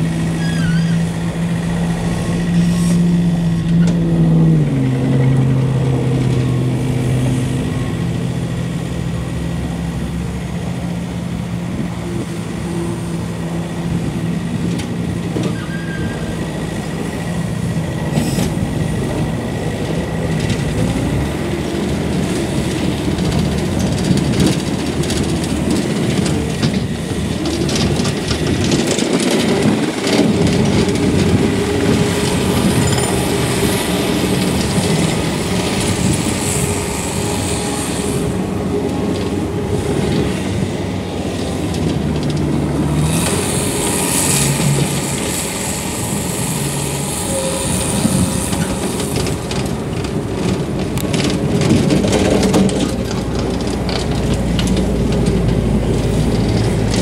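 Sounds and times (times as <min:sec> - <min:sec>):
diesel engine running: 0:00.0 - 0:57.0
tracks clattering: 0:00.0 - 0:57.0.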